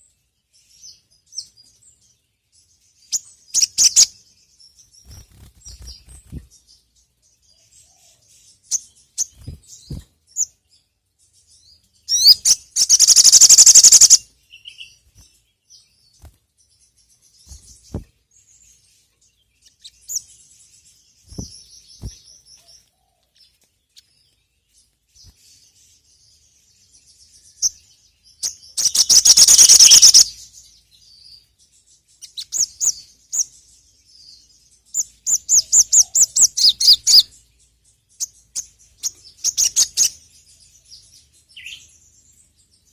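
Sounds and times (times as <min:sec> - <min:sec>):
songbird chirping and trilling: 0:00.0 - 0:42.9.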